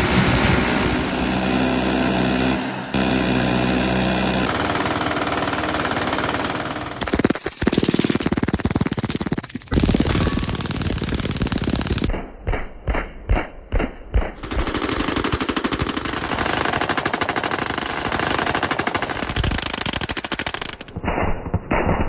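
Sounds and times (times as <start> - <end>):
automatic machine gun fire: 1.0 - 12.1, 14.4 - 21.0.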